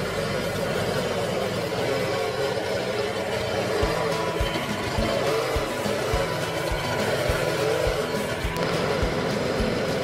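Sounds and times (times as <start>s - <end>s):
pressure washer engine drone: 0.0s - 10.0s.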